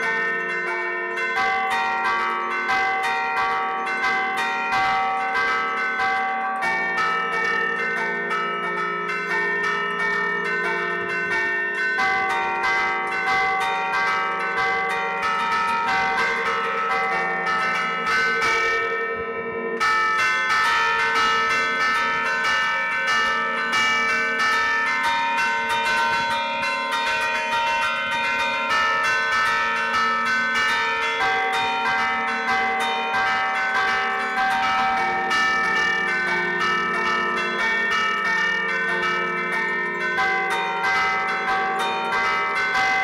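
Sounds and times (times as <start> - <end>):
church bells playing a tune: 0.0 - 43.0.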